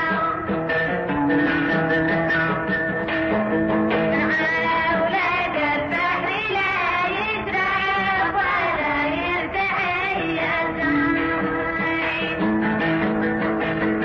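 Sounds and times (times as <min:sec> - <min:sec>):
person singing: 0:00.0 - 0:13.1
instrumental backing: 0:00.0 - 0:14.0.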